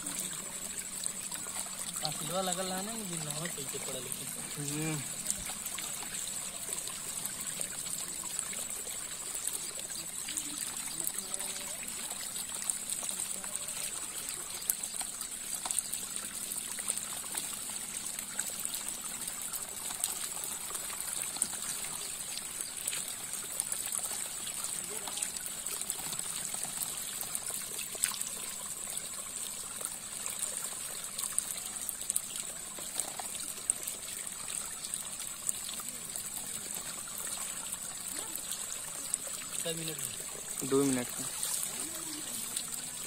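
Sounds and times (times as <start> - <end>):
water trickling: 0.0 - 43.0
wet fish ticks and splashes: 0.0 - 43.0.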